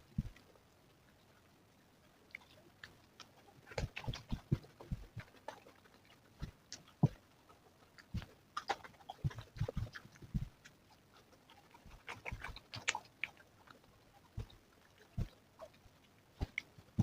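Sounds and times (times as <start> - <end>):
chewing and mouth smacks: 2.1 - 17.0.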